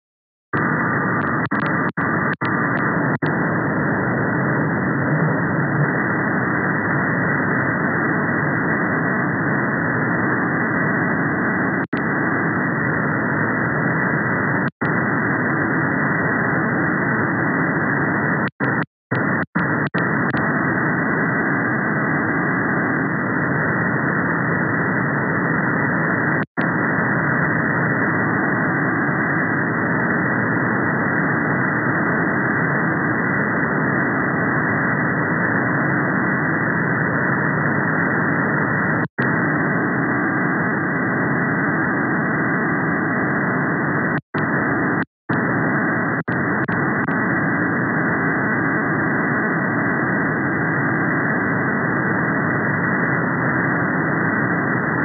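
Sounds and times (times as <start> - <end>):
radio receiver hiss: 0.5 - 55.0.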